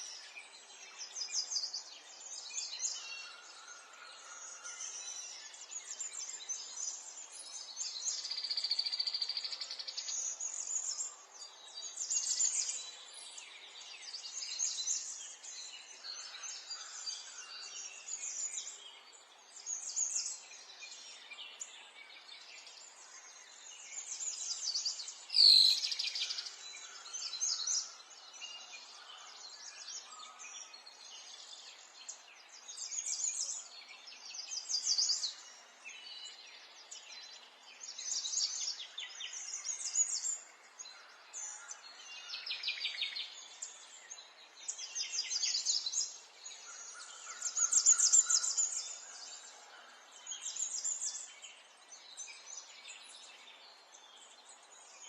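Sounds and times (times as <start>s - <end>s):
soft outdoor hiss: 0.0s - 55.0s
songbirds chirping and trilling: 0.0s - 55.0s.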